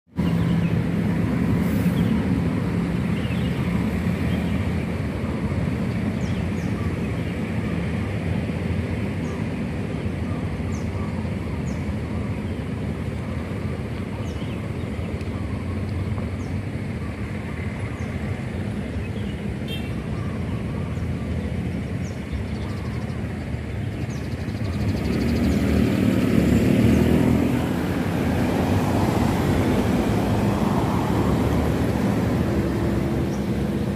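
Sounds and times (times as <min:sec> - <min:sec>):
traffic engine hum: 0:00.0 - 0:33.9.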